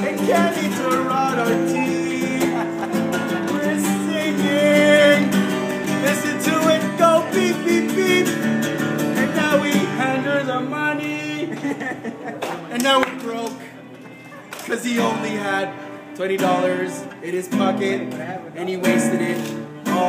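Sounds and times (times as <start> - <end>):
man singing: 0.0 - 12.1, 14.6 - 20.0
acoustic guitar strumming: 0.0 - 20.0.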